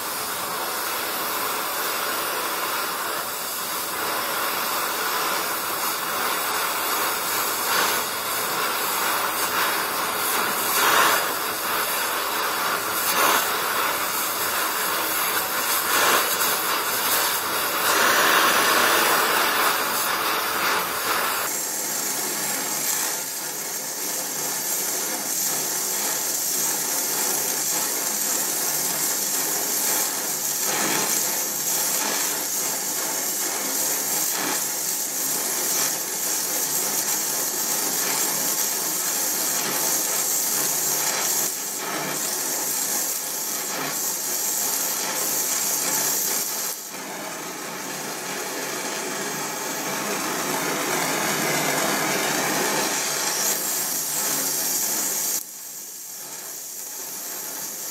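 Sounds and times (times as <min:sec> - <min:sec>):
gas torch flame hissing: 0:00.0 - 0:57.9.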